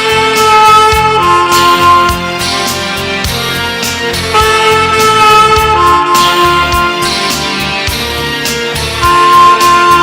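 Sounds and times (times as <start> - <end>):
band with drums and guitar: 0.0 - 10.0
saxophone holding long notes: 0.0 - 10.0.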